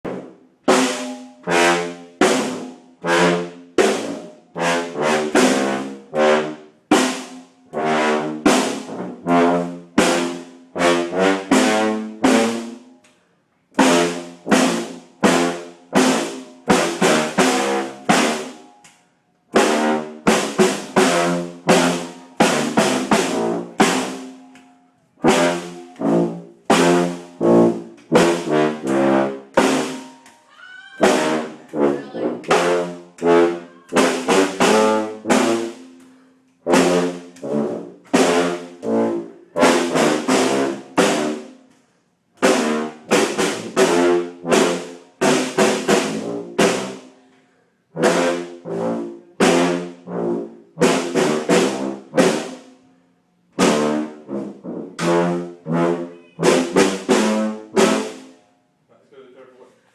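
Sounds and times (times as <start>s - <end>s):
drum beats: 0.0s - 13.0s, 13.8s - 18.7s, 19.5s - 24.6s, 25.2s - 36.0s, 36.6s - 41.6s, 42.4s - 47.1s, 50.8s - 52.7s, 53.5s - 58.4s
tuba playing bouncy tune: 0.1s - 13.0s, 13.8s - 18.8s, 19.5s - 30.3s, 31.0s - 47.1s, 47.8s - 58.4s.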